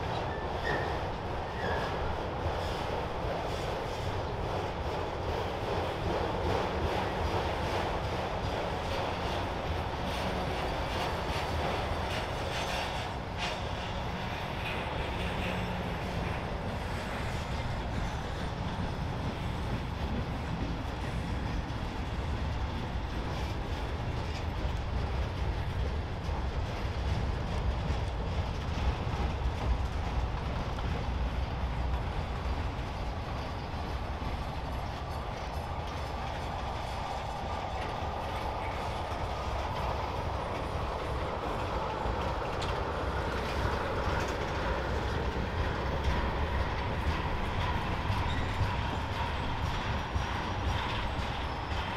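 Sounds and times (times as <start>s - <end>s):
clickety-clack over rail joints: 0.0s - 51.9s
train wheels rumbling on rails: 0.0s - 51.9s.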